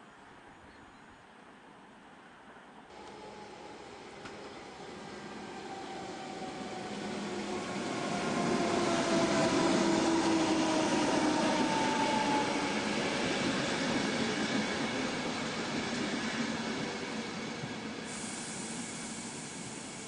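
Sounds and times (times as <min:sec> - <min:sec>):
electric train passing: 0:02.9 - 0:20.0.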